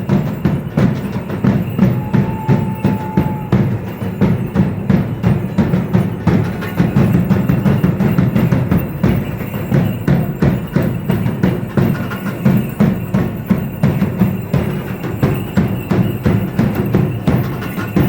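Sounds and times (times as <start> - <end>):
drums beating driving rhythm: 0.0 - 18.0
sharp clicking percussion: 0.0 - 18.0.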